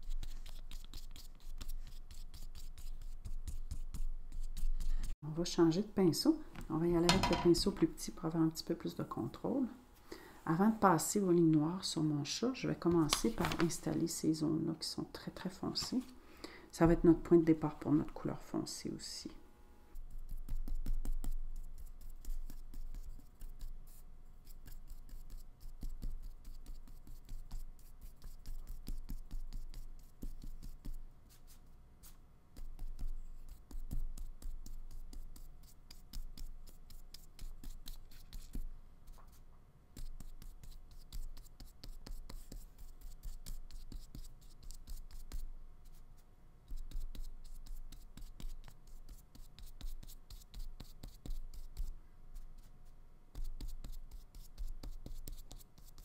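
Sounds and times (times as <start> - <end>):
scratchy paintbrush strokes on paper: 0.0 - 9.5, 19.9 - 56.0.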